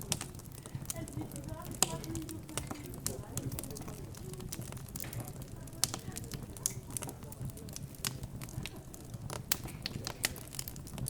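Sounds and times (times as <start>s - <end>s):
background chatter: 0.0s - 11.0s
wood fire crackling and popping: 0.0s - 11.0s.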